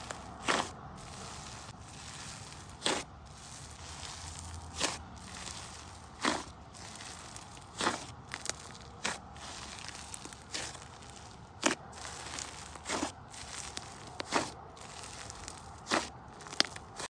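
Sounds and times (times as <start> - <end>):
slime squelching and crackling: 0.0 - 17.0.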